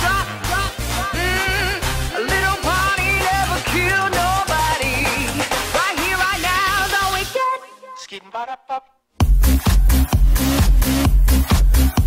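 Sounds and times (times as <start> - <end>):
pop music with pulsing bass: 0.0 - 8.6, 9.2 - 12.0.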